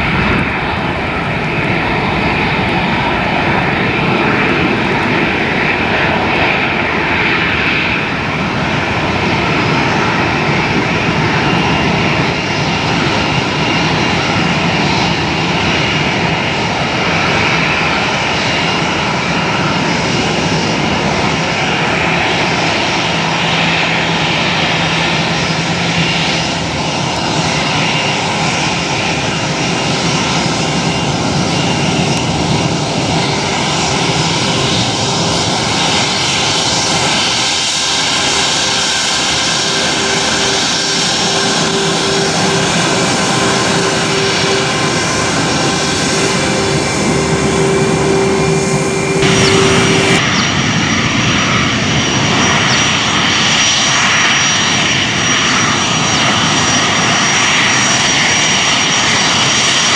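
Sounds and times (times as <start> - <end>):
jet engine whining tones: 0.0 - 59.9
jet engines running: 0.0 - 59.9.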